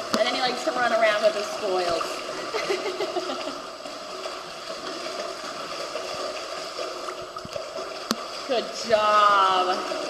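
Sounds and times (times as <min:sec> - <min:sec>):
water noise: 0:00.0 - 0:10.0.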